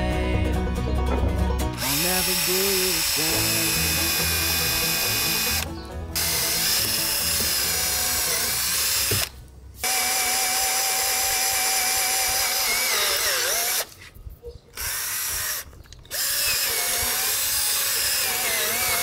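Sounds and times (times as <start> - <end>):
drill boring into wood: 1.8 - 14.0, 14.8 - 19.0.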